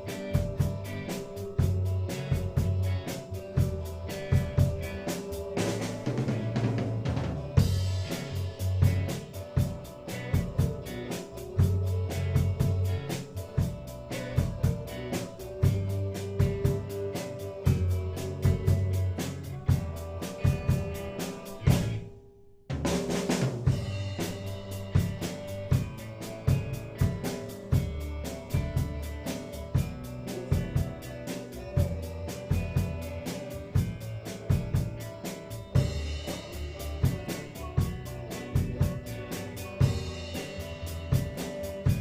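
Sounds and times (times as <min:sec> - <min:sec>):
band playing: 0:00.0 - 0:22.0, 0:22.7 - 0:42.0.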